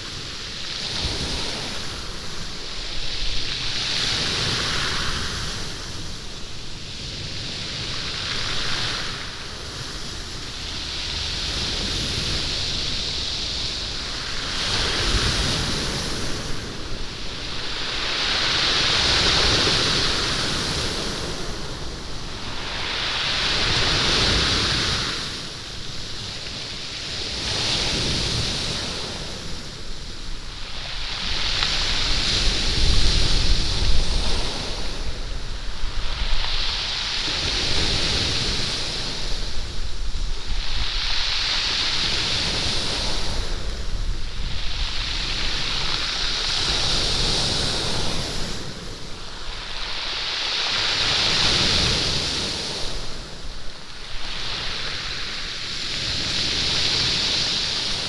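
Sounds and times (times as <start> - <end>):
waves washing up beach: 0.0 - 58.0.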